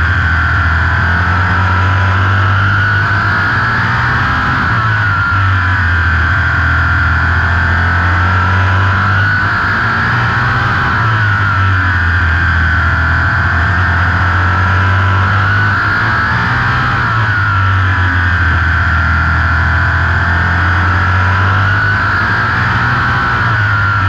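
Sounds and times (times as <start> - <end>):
race car engine at speed: 0.0 - 24.0.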